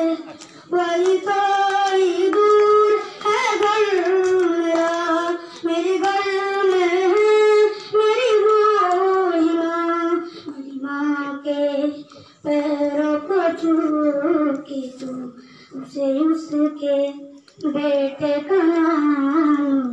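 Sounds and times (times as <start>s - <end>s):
boy singing: 0.0s - 19.9s.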